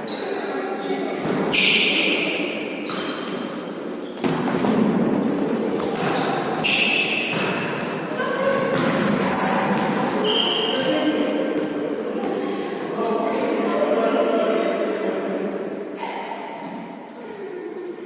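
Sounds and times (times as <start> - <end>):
players' voices: 0.0 - 18.0.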